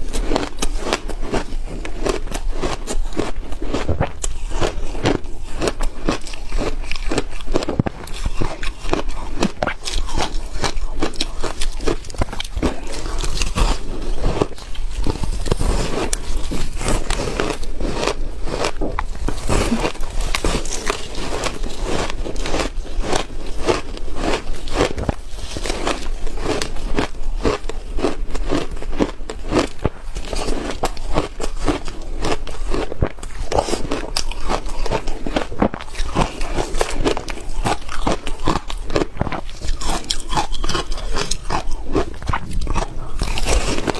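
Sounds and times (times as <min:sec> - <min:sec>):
ice crunching between teeth: 0:00.0 - 0:43.9.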